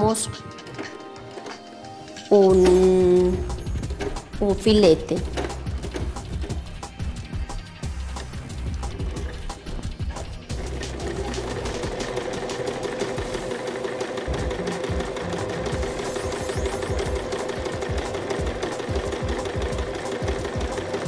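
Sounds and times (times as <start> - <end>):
electric sewing machine running: 0.7 - 7.2, 7.8 - 21.0.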